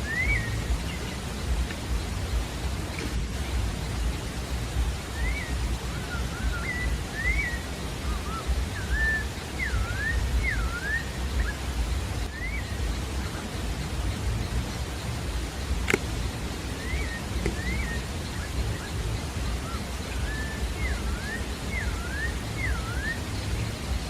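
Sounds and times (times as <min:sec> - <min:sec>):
bird singing whistled notes: 0:00.0 - 0:24.0
low background rumble: 0:00.0 - 0:24.0.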